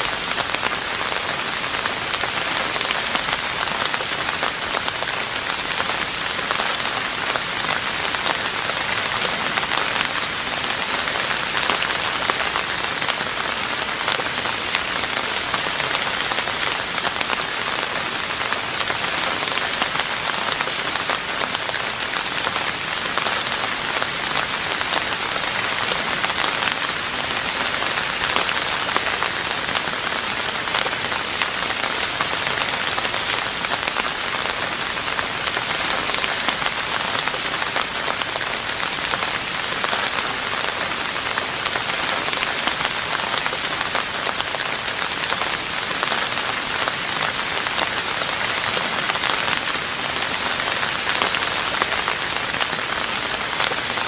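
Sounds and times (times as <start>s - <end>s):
rain falling on a roof: 0.0s - 54.0s.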